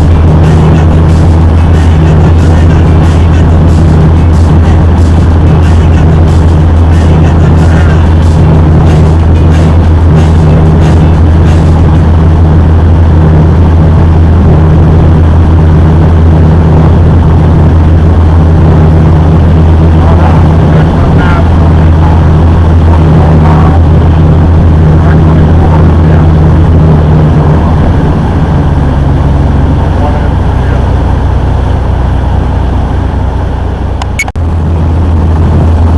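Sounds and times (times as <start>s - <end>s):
boat engine droning: 0.0s - 35.9s.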